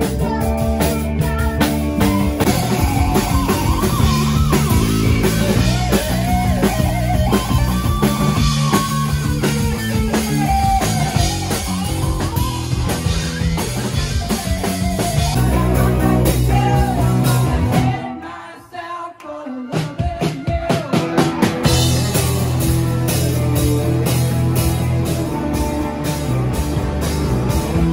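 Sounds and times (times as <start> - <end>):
electric guitar lead lines: 0.0 - 18.1, 21.0 - 27.9
live rock band playing: 0.0 - 18.2, 19.8 - 27.9.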